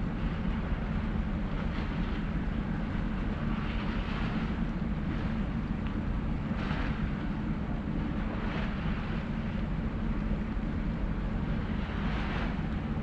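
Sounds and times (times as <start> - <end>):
ship engines rumbling: 0.0 - 13.0.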